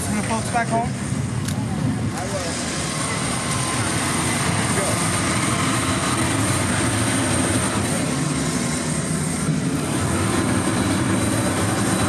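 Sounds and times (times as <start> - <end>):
aircraft engines running: 0.0 - 12.0.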